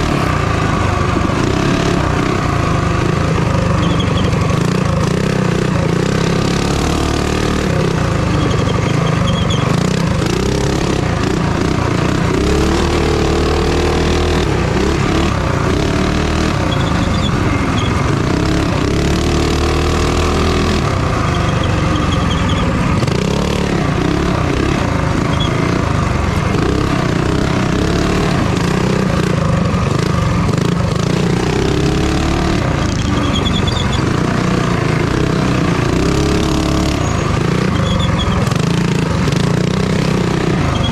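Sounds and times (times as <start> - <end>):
minibike engine racing: 0.0 - 40.9.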